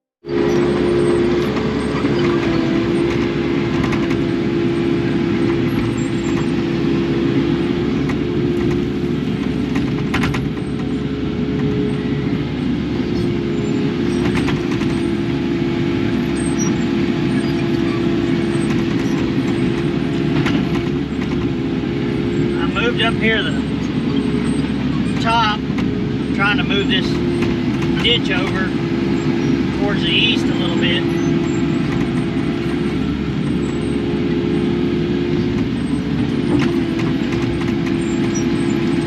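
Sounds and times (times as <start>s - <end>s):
excavator engine droning: 0.2s - 39.0s.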